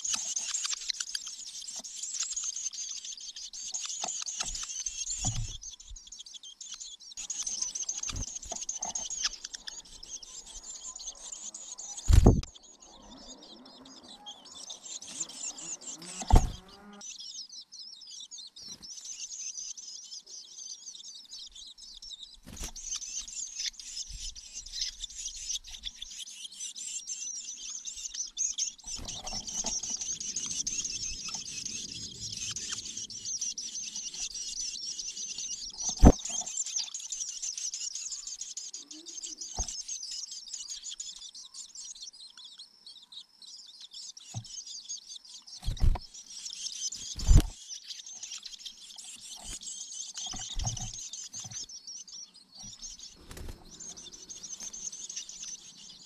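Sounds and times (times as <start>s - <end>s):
nestlings begging chirps: 0.0s - 56.0s.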